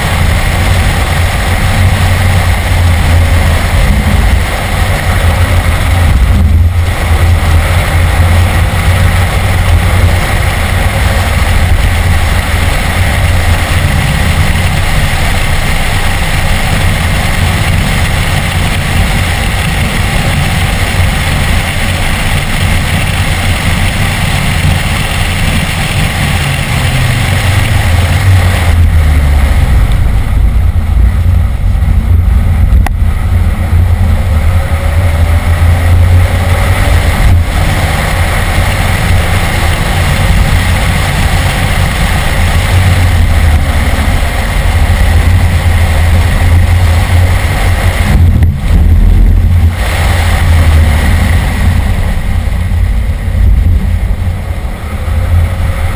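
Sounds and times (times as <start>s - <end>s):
car engine running hard: 0.0s - 55.9s
wind and road noise: 0.0s - 55.9s.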